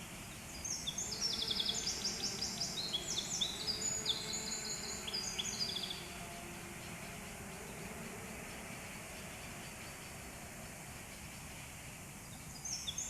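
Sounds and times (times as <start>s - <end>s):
low background hum: 0.0s - 13.0s
songbird singing: 0.0s - 13.0s.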